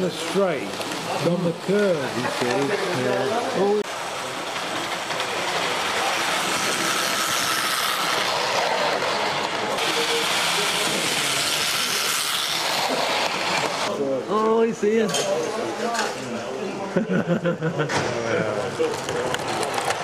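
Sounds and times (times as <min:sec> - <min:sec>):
model train wheels rattling on rails: 0:00.0 - 0:16.2, 0:18.5 - 0:20.0.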